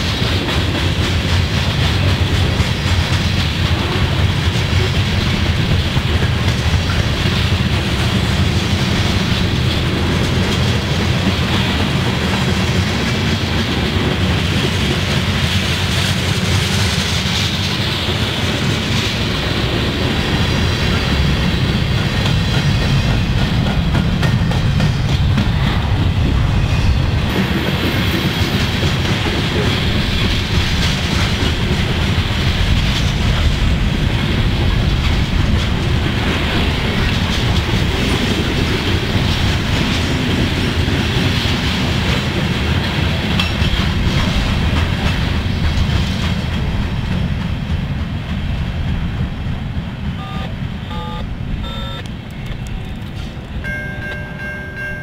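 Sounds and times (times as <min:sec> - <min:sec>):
steel wheels rolling on rail: 0:00.0 - 0:55.0.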